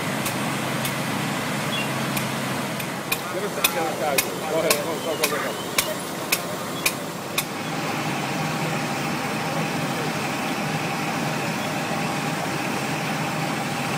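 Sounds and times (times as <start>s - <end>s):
vehicle engine idling: 0.0s - 13.9s.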